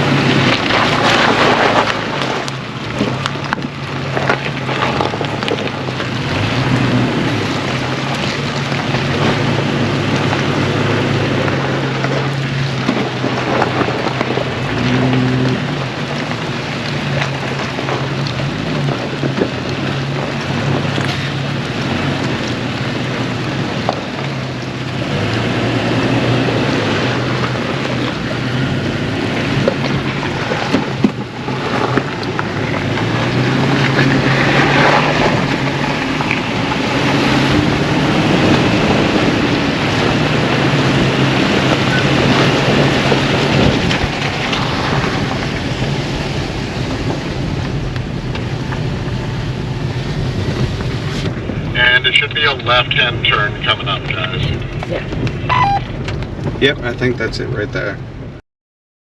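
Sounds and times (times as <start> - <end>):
road and tyre noise: 0.0 - 58.4
vehicle engine drone: 0.0 - 58.4.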